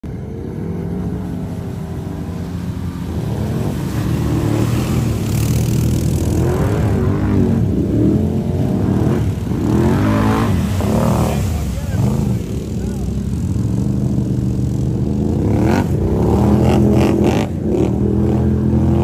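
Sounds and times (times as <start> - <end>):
atv engines revving: 0.0 - 19.0
water and mud splashing: 0.0 - 19.0.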